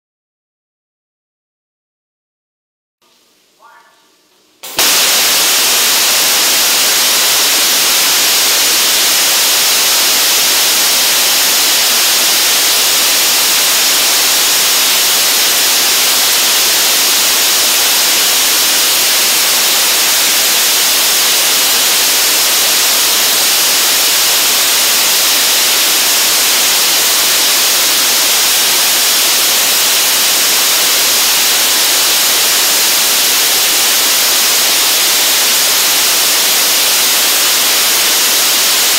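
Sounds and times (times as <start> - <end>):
rocket motors rushing hiss: 4.6 - 38.9.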